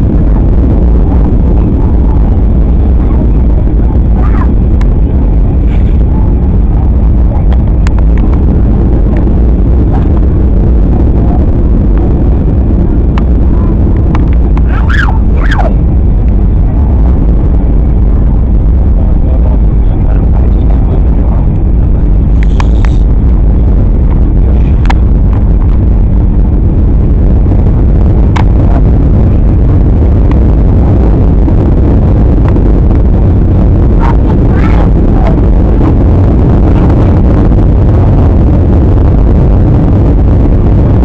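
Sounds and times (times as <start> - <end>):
airliner cabin roar: 0.0 - 41.0.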